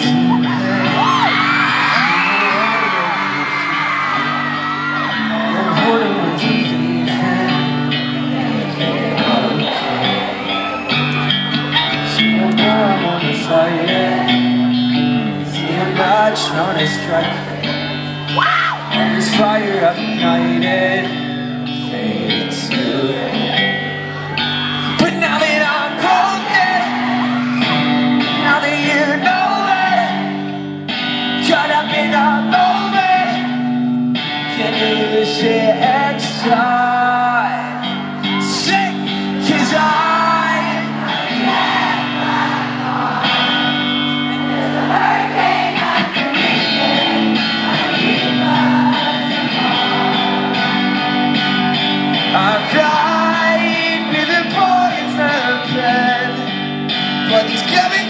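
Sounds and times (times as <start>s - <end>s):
lead vocalist singing: 0.0s - 58.0s
pop-rock band playing live: 0.0s - 58.0s.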